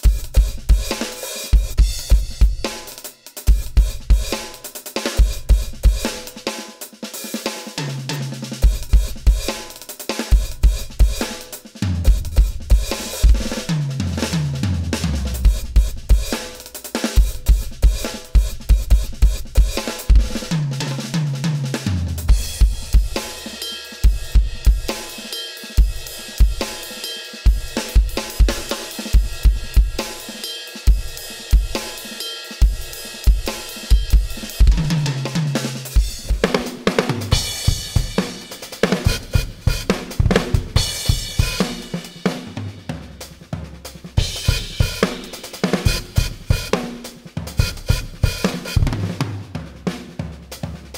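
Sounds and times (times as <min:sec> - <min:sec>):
electronic drum kit rock groove: 0:00.0 - 0:50.9.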